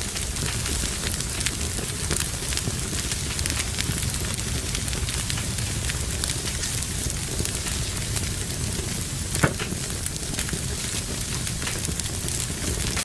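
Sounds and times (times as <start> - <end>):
fire crackling in fireplace: 0.0 - 13.0
loud fire pop: 0.0 - 13.0.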